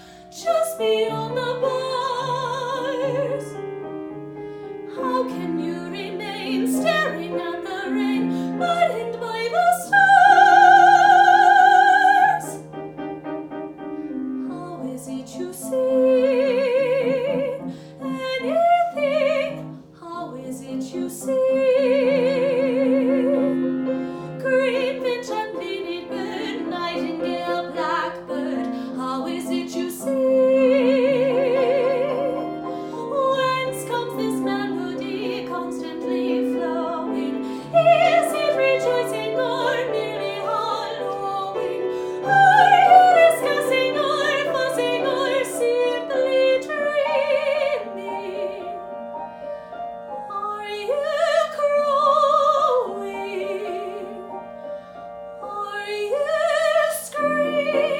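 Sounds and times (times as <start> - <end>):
piano accompaniment: 0.0 - 57.9
woman singing classical style: 0.0 - 57.9.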